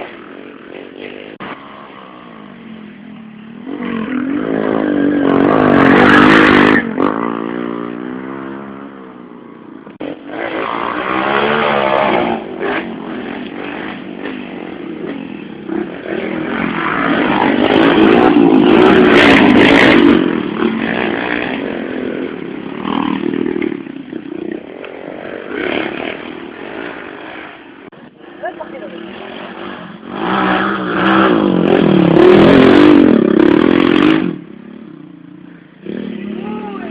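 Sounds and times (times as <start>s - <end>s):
motorcycle engines revving: 0.0s - 36.9s
motorcycles passing: 0.0s - 36.9s.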